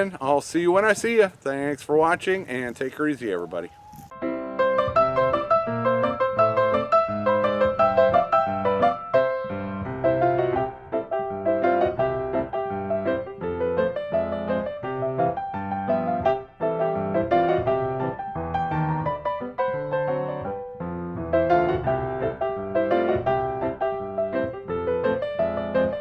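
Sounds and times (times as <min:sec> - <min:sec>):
piano melody: 0:04.1 - 0:26.0.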